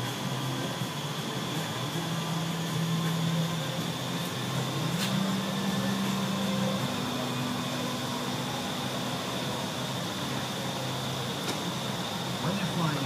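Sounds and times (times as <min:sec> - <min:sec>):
rushing air from fans: 0:00.0 - 0:13.0.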